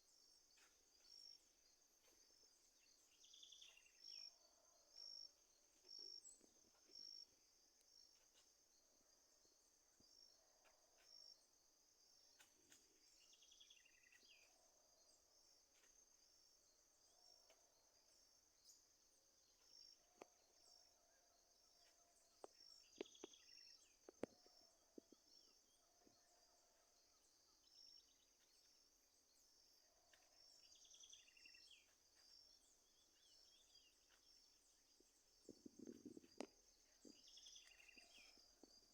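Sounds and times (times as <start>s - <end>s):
insect chorus chirring: 0.0s - 38.9s.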